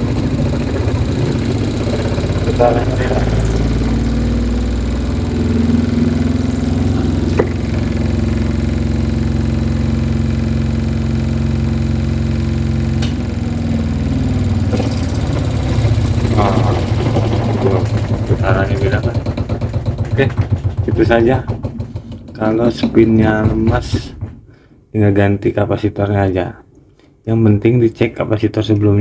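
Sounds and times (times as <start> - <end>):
spin-dryer motor humming: 0.0 - 24.5.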